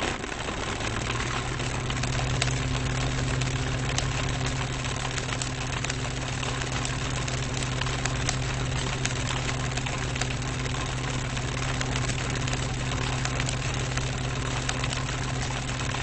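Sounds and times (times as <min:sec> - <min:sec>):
electric fan running: 0:00.0 - 0:16.0
low motor hum: 0:00.0 - 0:16.0
fan ticking: 0:00.2 - 0:16.0.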